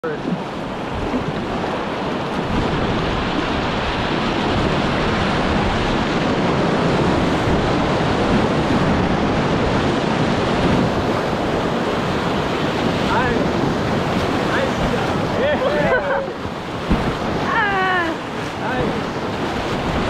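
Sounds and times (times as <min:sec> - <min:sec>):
river rapid rushing: 0:00.0 - 0:20.0.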